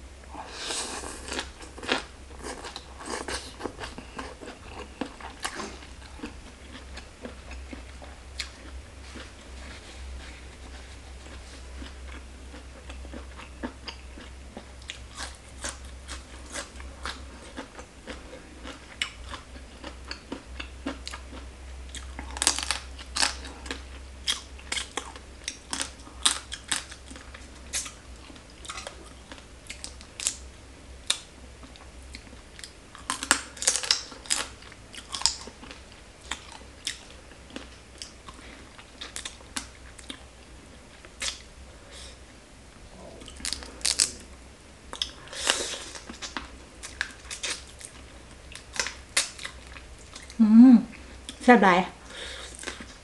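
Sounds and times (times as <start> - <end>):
person chewing and crunching: 0.4 - 30.4, 31.0 - 42.2, 43.1 - 51.4, 52.0 - 53.0.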